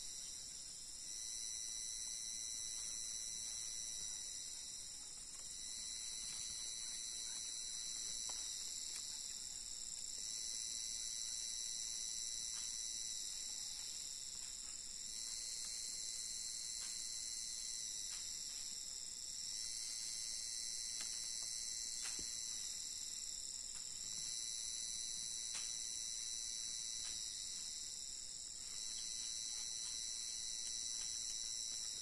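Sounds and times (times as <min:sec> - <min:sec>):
forest insects chorus: 0:00.0 - 0:32.0.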